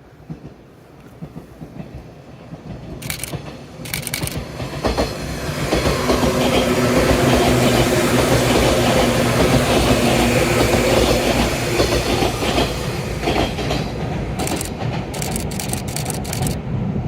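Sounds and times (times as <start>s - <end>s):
train wheels clattering on track: 0.0s - 16.7s.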